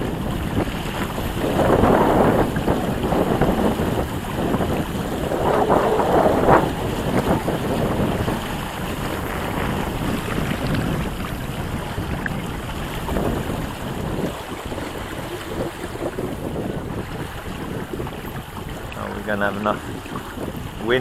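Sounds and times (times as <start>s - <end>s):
water washing along hull: 0.0s - 21.0s
wind noise on microphone: 0.0s - 21.0s.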